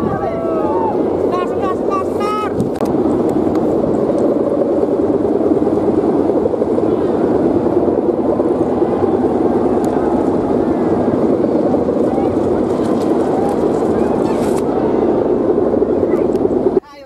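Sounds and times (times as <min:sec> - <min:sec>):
kite hummers buzzing in wind: 0:00.0 - 0:17.0.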